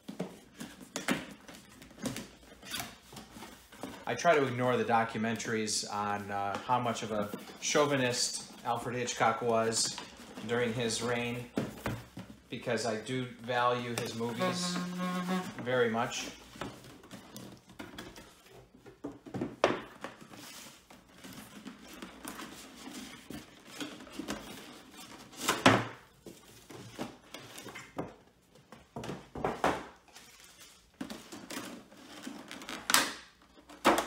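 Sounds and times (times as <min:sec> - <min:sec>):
plastic rustling: 0:00.0 - 0:28.6, 0:30.0 - 0:34.0.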